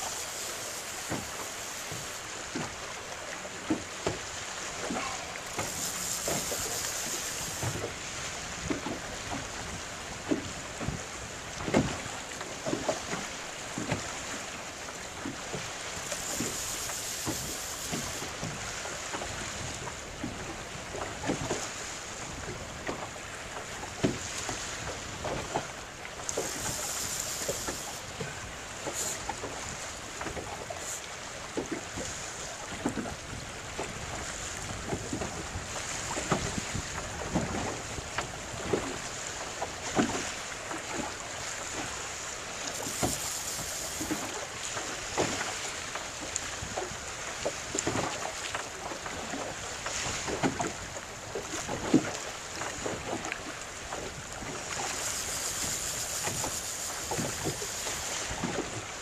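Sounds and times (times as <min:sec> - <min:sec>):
waves slapping boat hull: 0:00.0 - 0:59.0.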